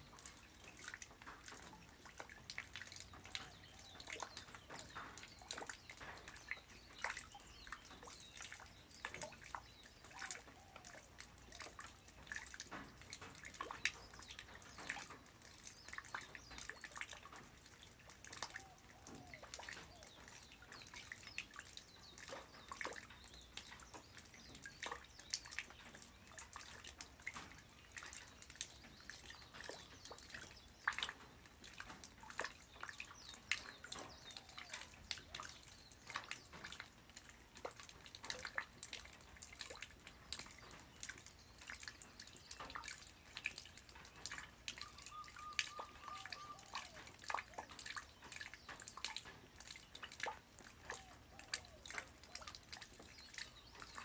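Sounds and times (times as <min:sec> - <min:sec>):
light rain dripping: 0:00.0 - 0:54.0.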